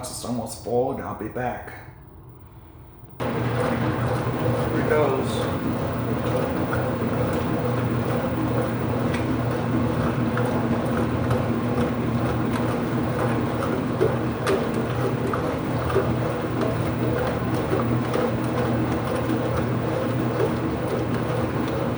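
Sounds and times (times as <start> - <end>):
water rushing into washing machine: 3.2 - 21.9.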